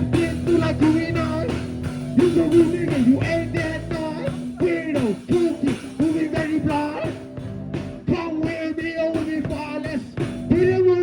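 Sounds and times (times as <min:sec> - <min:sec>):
person singing and rapping: 0:00.0 - 0:07.4, 0:08.0 - 0:11.0
rock band playing: 0:00.0 - 0:11.0.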